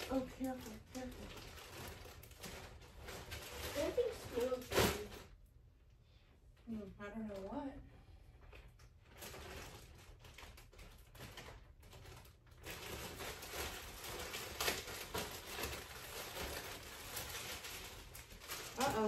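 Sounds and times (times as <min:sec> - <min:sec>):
plastic bag rustling: 0:00.0 - 0:05.4, 0:08.4 - 0:19.0.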